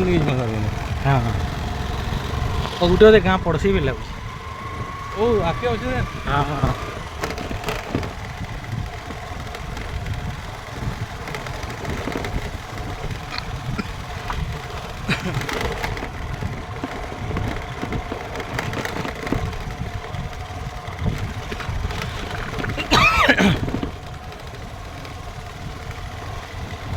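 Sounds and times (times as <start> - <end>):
engine knocks: 0.0 - 26.9
small engine running: 0.0 - 26.9.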